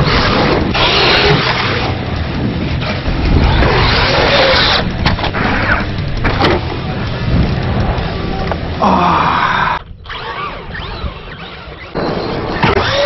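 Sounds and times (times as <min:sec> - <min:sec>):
tyres churning sand: 0:00.0 - 0:13.0.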